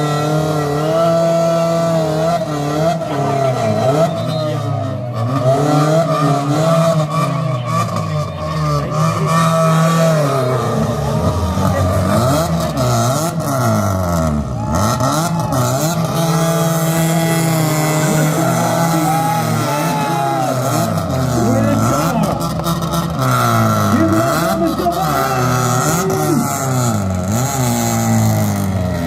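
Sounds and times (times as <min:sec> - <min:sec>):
car engine revving hard: 0:00.0 - 0:29.0.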